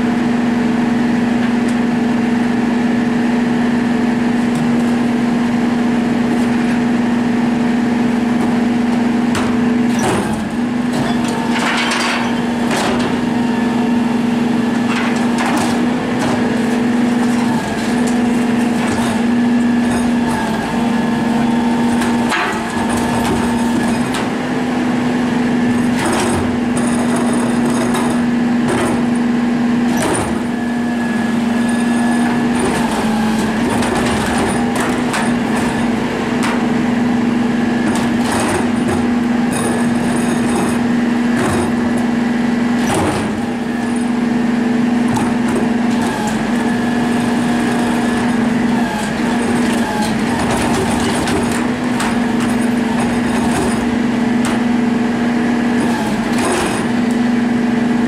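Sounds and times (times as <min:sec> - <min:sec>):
garbage truck running: 0:00.0 - 0:58.0.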